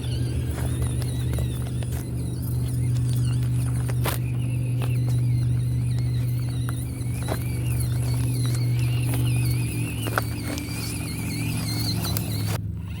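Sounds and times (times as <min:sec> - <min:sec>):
tyres clicking on terrain: 0:00.0 - 0:12.6
small electric motor whining: 0:00.0 - 0:13.0
steady low hum: 0:00.0 - 0:13.0.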